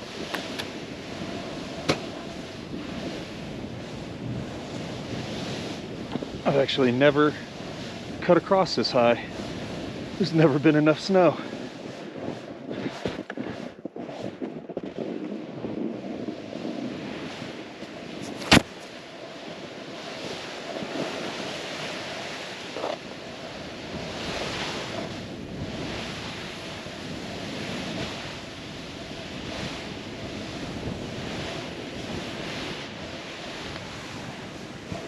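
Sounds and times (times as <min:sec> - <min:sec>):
snowboard carving through snow: 0:00.0 - 0:35.0
wind on microphone: 0:00.0 - 0:35.0.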